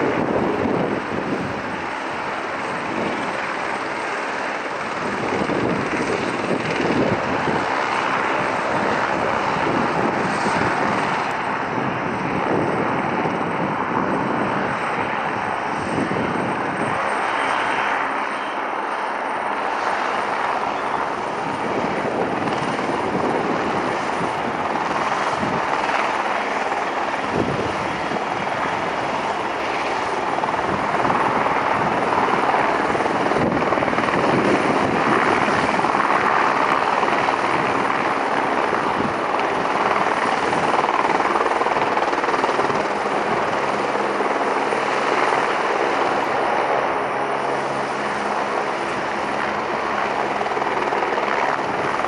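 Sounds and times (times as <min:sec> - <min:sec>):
helicopter engine and rotor: 0:00.0 - 0:52.0.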